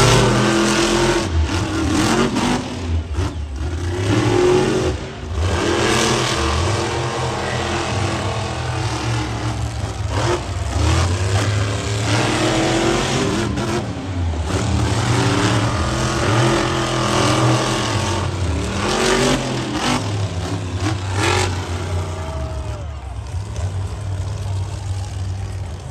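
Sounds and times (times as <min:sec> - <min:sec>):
monster truck engines revving: 0:00.0 - 0:25.9.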